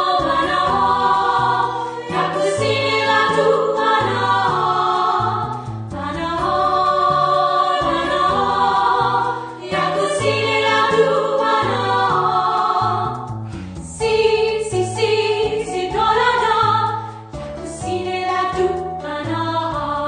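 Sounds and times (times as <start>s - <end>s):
choir singing: 0.0s - 13.3s, 14.0s - 17.2s, 17.8s - 20.0s
instrumental backing with bass: 0.0s - 20.0s.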